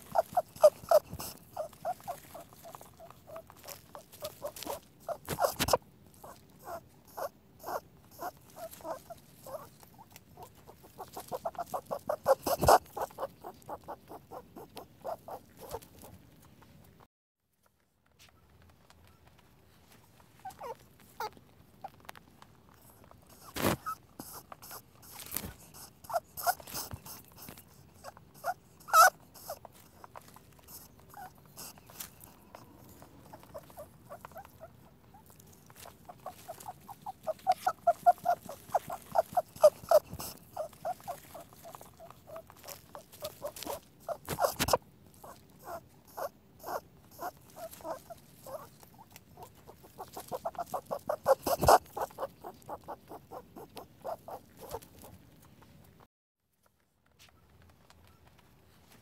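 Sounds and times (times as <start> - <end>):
rabbit squeaking: 0.0 - 17.0, 20.3 - 56.0.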